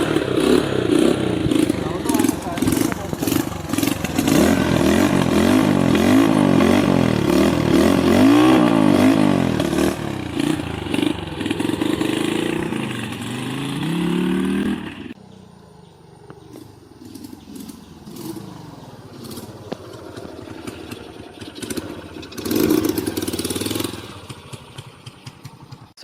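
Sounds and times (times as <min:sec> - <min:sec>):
motorcycle revving: 0:00.0 - 0:26.0.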